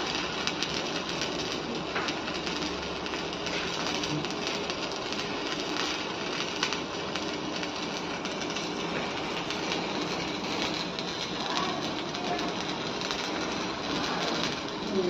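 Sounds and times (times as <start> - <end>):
welding arc crackling: 0.0 - 15.0.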